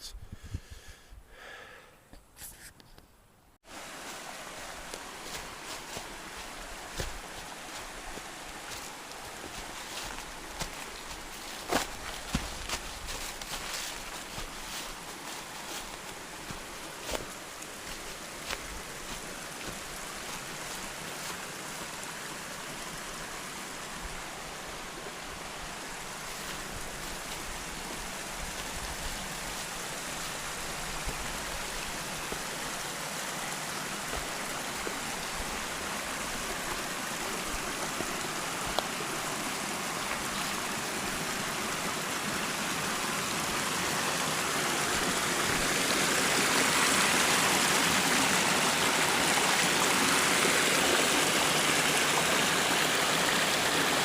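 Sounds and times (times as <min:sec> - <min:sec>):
stream water rushing: 0:03.6 - 0:54.0.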